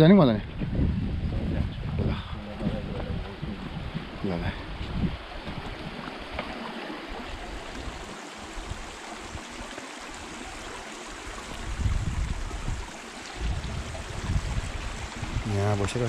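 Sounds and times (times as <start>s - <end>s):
stream flowing: 0.4s - 16.0s.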